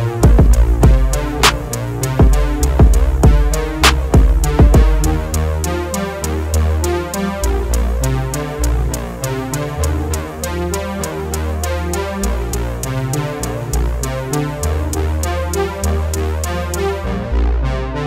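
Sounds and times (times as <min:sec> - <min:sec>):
drum-machine beat: 0:00.0 - 0:16.8
electronic music: 0:00.0 - 0:18.0
synth bass line: 0:00.0 - 0:18.0.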